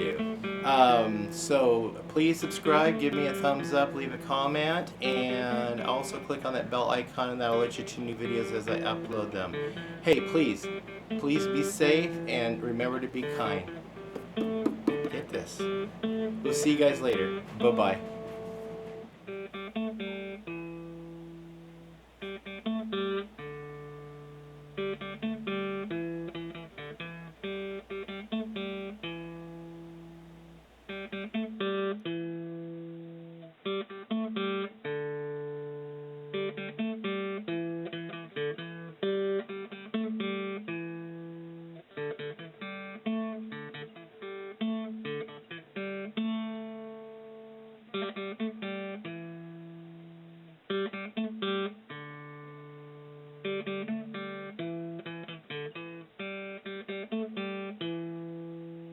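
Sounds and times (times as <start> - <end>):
acoustic guitar music: 0.0 - 58.9.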